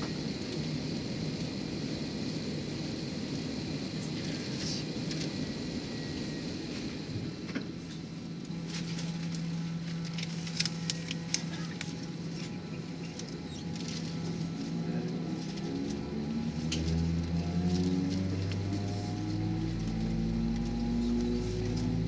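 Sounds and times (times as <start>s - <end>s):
airplane cabin hum: 0.0s - 22.0s.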